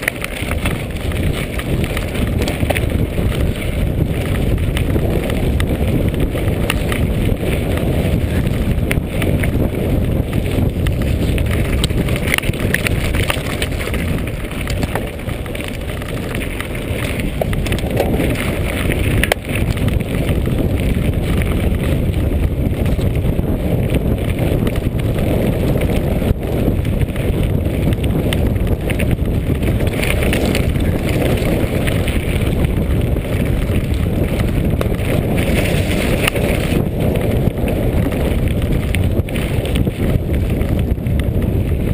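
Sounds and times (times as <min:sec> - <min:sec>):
bike clicks and rattles: 0:00.0 - 0:41.9
bike tyres crunching on gravel: 0:00.0 - 0:41.9
wind buffeting microphone: 0:00.0 - 0:41.9.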